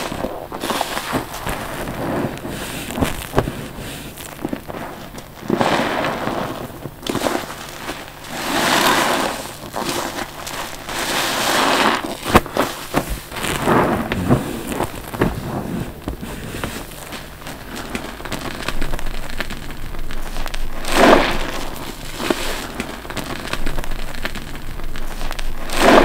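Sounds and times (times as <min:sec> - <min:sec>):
sponge squelching: 0:00.0 - 0:26.0.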